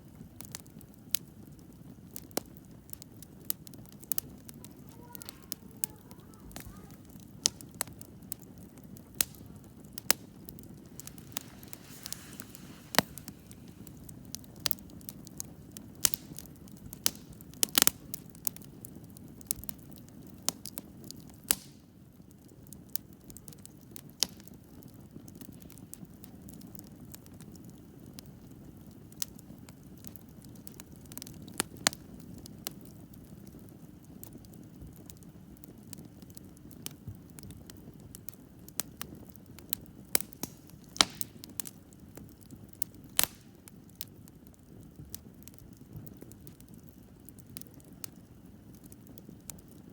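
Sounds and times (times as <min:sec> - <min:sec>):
burning wood crackling and popping: 0:00.0 - 0:49.9
campfire flames rushing: 0:00.0 - 0:49.9.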